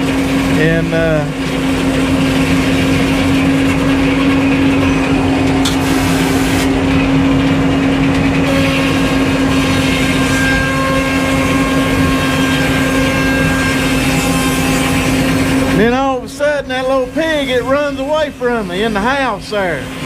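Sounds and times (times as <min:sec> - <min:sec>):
sawmill engine droning: 0:00.0 - 0:20.0.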